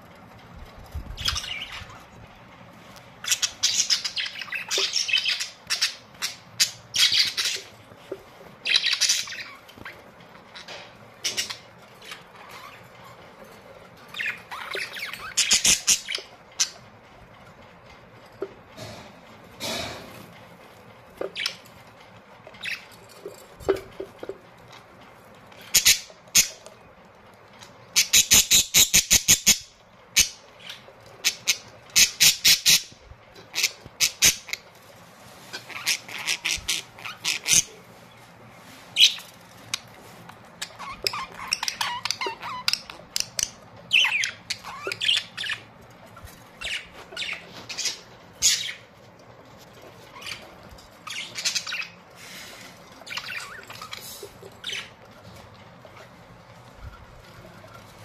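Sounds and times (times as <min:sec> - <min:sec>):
budgerigars chirping and squawking: 0:00.9 - 0:02.2, 0:03.2 - 0:16.9, 0:21.1 - 0:21.8, 0:22.5 - 0:24.3, 0:25.5 - 0:26.7, 0:27.9 - 0:49.0, 0:49.6 - 0:58.0.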